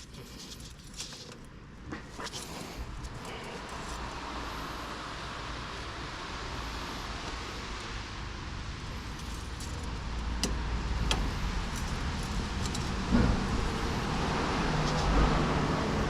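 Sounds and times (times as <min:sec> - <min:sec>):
car engine running: 0:02.3 - 0:16.0.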